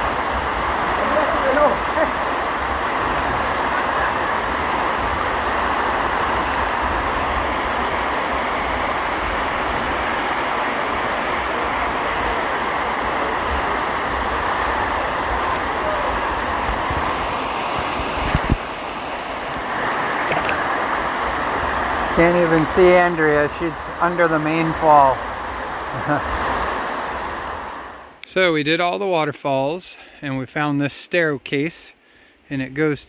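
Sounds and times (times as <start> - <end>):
waterfall rushing: 0.0 - 28.2.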